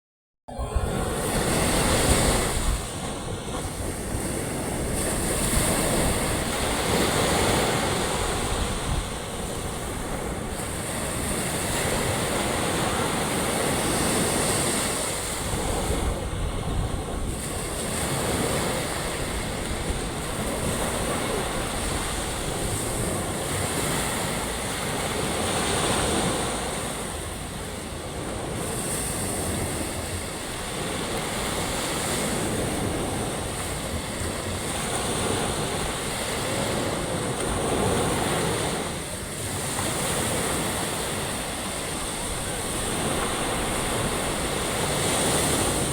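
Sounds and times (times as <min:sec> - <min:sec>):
ocean surf washing onto shore: 0:00.5 - 0:45.9
wind on microphone: 0:00.5 - 0:45.9.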